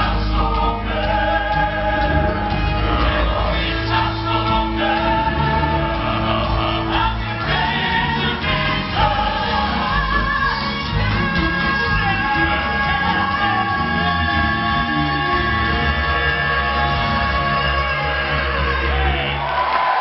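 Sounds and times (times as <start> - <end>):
men singing in close harmony: 0.0 - 19.3.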